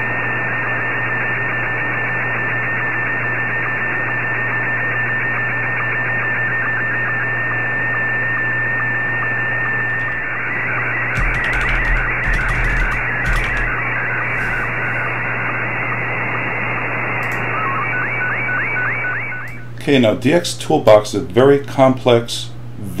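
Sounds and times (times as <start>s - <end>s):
radio picture transmission tone: 0.0s - 19.8s
radio band hiss: 0.0s - 21.5s.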